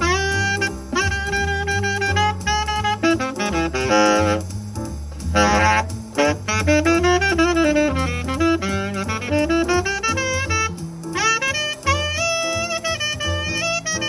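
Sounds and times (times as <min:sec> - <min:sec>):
bass line: 0:00.0 - 0:14.0
horn backing: 0:00.0 - 0:14.0
tenor saxophone melody: 0:00.0 - 0:14.0.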